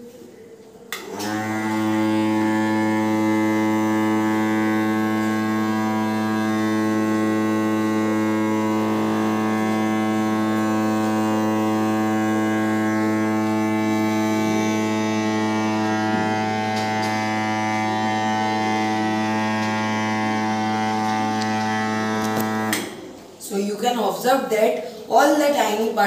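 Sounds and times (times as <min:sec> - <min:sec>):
small motor fan humming: 0:01.0 - 0:23.1.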